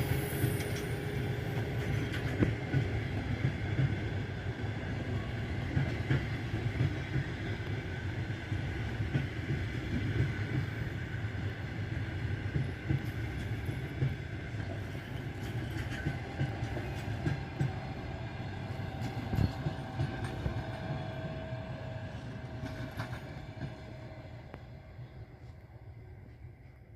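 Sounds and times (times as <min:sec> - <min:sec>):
train coaches rumbling past: 0:00.0 - 0:26.9.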